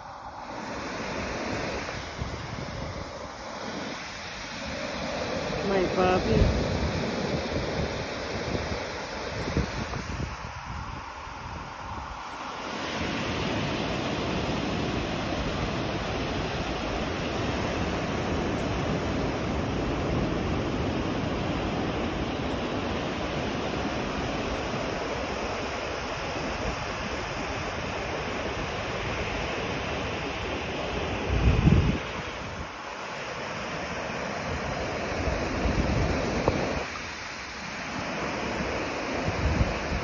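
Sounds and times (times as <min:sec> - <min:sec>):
wind rumbling on microphone: 0:00.0 - 0:32.9, 0:34.3 - 0:37.3, 0:38.1 - 0:40.0
ocean surf breaking: 0:00.0 - 0:40.0.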